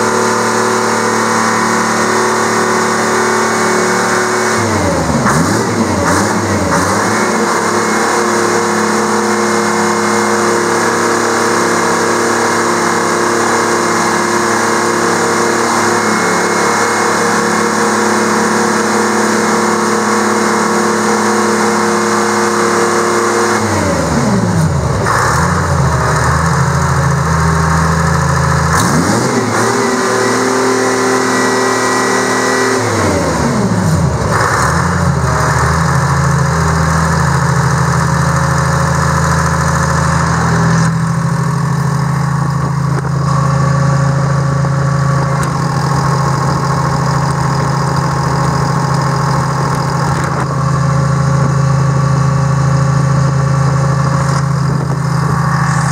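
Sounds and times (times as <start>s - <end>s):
diesel engine revving and idling: 0.0s - 55.9s.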